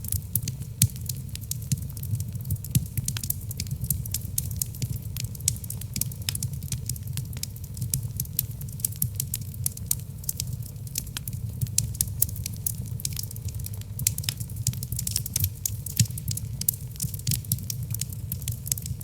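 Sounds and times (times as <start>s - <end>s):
logs crackling in a fireplace: 0.0s - 19.0s
low rumble of fire: 0.0s - 19.0s.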